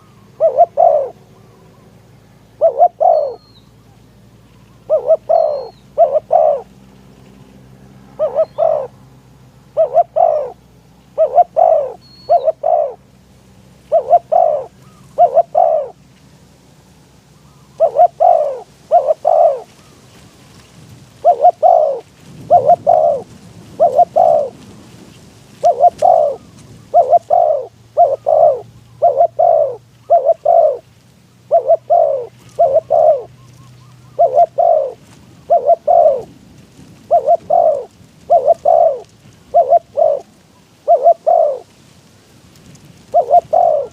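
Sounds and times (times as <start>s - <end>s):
dove cooing: 0.0s - 3.6s, 4.8s - 6.8s, 7.9s - 9.0s, 9.6s - 13.1s, 13.8s - 16.0s, 17.4s - 24.7s, 25.6s - 36.4s, 37.0s - 41.7s, 43.1s - 43.9s.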